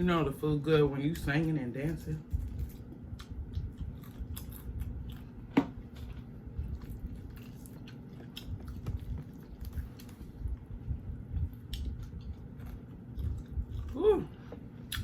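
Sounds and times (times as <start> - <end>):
person chewing food: 2.3 - 15.0.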